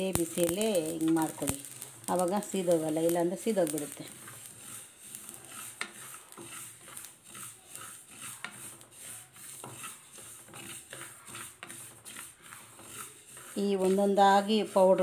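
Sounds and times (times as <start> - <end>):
seeds rustling over pan: 0.0 - 15.0.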